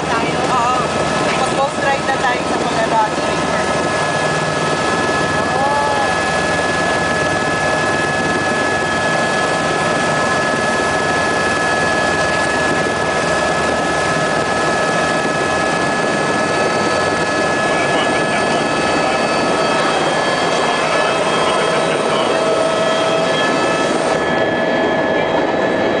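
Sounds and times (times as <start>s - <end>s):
helicopter rotor and engine drone: 0.0s - 26.0s
high whine: 0.0s - 26.0s.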